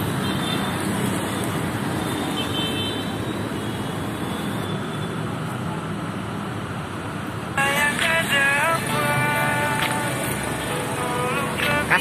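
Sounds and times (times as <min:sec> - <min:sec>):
traffic on wet street: 0:00.0 - 0:12.0.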